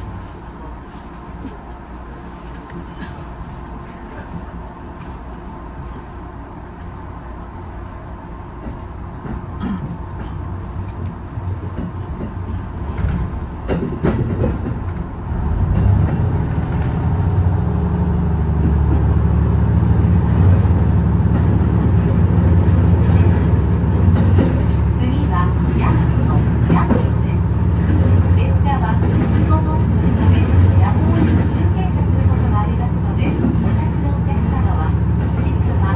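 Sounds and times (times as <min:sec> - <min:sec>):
railcar running on rails: 0:00.0 - 0:35.9.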